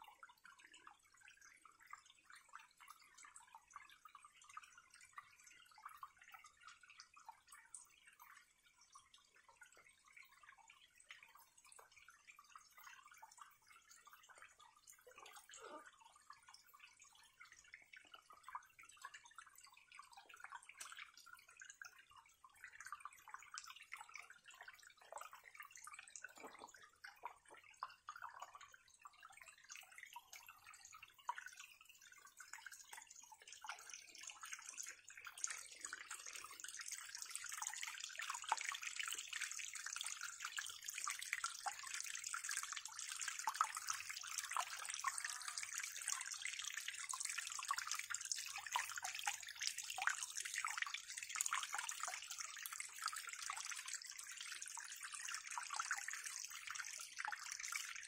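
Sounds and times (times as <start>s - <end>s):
water trickling over rocks: 0.0s - 58.0s.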